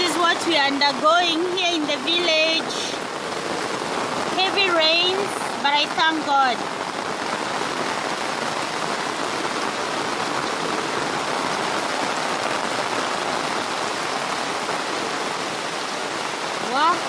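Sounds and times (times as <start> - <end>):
heavy rain pattering: 0.0 - 17.0.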